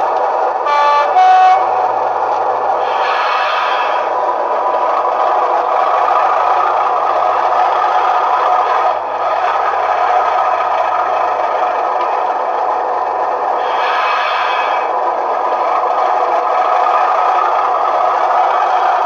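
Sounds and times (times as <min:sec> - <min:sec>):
model train diesel engine sound: 0:00.0 - 0:19.0.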